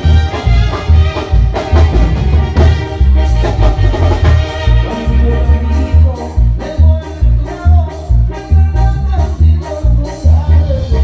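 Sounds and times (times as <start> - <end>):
drum kit beat: 0.0 - 11.0
live band dance music: 0.0 - 11.0.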